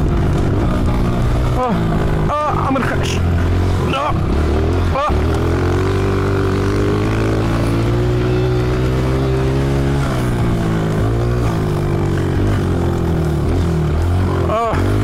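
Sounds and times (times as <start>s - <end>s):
dirt bike engine running hard: 0.0s - 15.0s.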